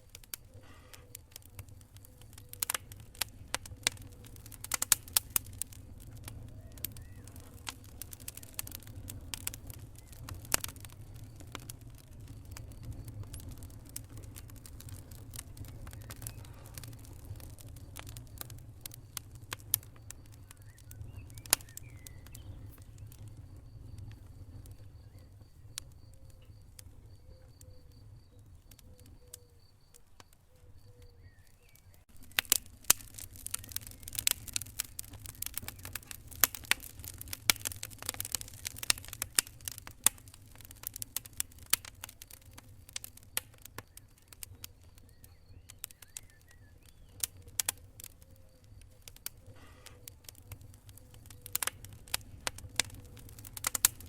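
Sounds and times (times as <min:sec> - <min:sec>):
fire crackling and popping: 0:00.0 - 0:54.0
low fire rumble: 0:00.0 - 0:54.0.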